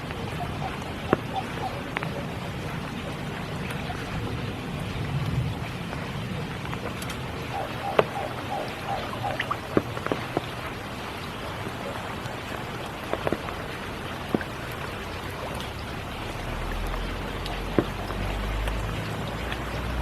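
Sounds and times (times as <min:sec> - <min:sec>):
raindrops plinking on surfaces: 0:00.0 - 0:20.0
steady rain falling: 0:00.0 - 0:20.0.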